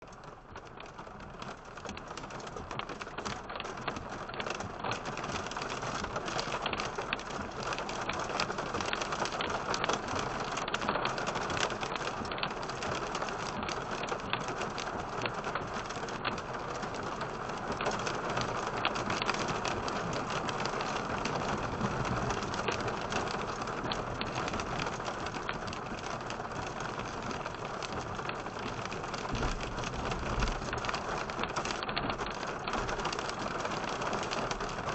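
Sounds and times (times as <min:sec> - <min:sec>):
heavy rain on a vehicle: 0:00.0 - 0:34.9.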